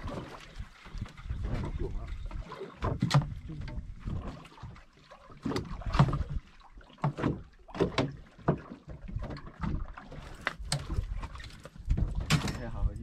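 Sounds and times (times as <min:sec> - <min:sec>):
water splashing against boat hull: 0:00.0 - 0:13.0.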